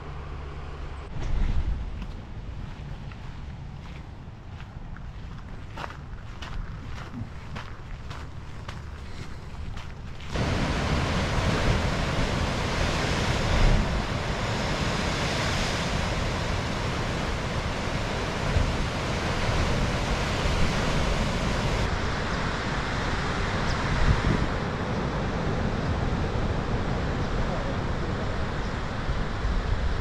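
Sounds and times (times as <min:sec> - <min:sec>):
wind buffeting microphone: 0:01.1 - 0:30.0.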